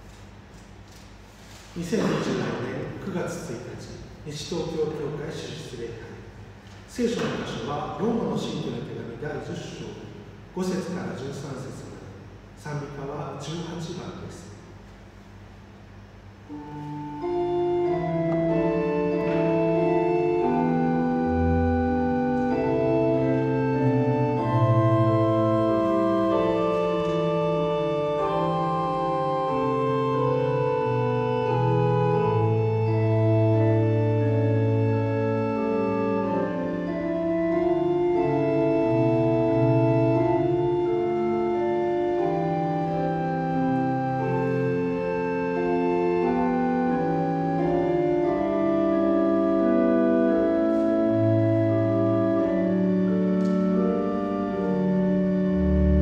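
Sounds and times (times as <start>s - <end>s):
pipe organ playing hymn chords: 0.0s - 56.0s.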